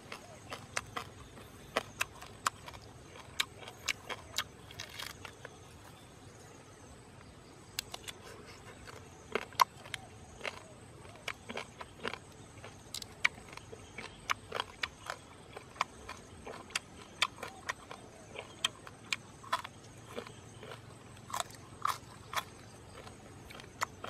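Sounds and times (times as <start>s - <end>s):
person chewing crunchy food: 0.0s - 6.1s, 7.8s - 24.0s.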